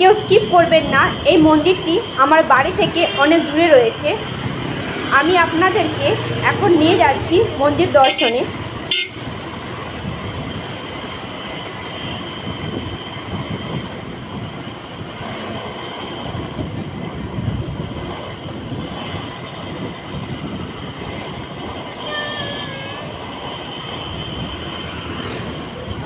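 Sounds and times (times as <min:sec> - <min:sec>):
vehicle road and engine noise: 0:00.0 - 0:26.0.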